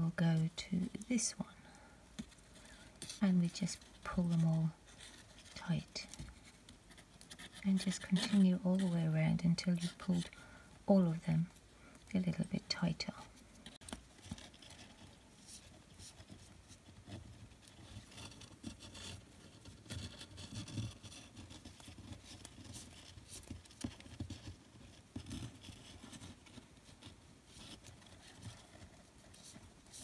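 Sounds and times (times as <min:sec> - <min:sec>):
cord rustling and scraping: 0:00.0 - 0:30.0.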